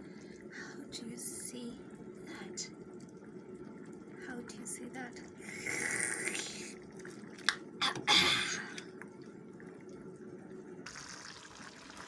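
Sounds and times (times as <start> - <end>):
stew bubbling in a pot: 1.8 - 12.0.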